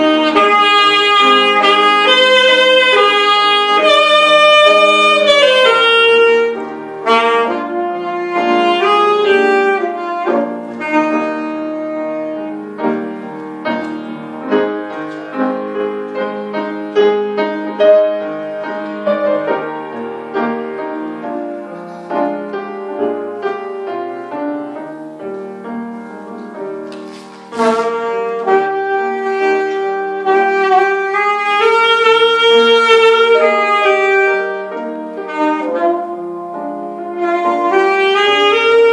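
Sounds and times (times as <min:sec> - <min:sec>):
piano accompaniment: 0:00.0 - 0:38.9
saxophone slow melody: 0:00.0 - 0:38.9.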